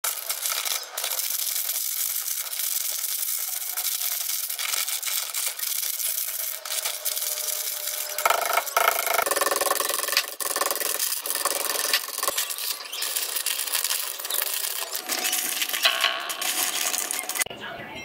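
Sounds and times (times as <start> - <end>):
plastic wrappers crinkling: 0.0 - 17.5.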